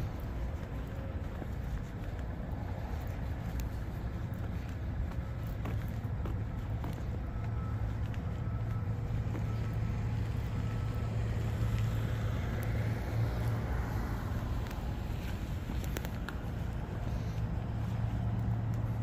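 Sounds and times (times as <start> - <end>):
traffic rumble with hum: 0.0 - 19.0.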